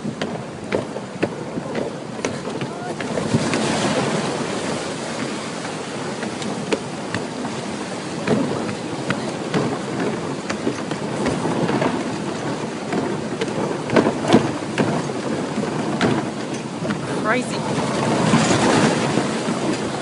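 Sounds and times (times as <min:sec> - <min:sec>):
rushing water: 0:00.0 - 0:20.0
sharp water splashes: 0:00.0 - 0:20.0.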